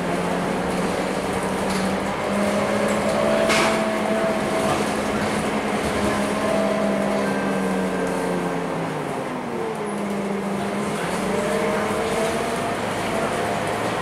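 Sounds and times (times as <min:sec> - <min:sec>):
bus engine hum with whine: 0:00.0 - 0:14.0.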